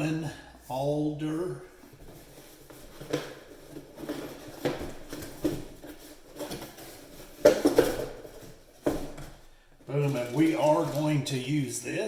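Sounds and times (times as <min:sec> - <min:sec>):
cardboard packaging rustling: 0:01.8 - 0:11.7.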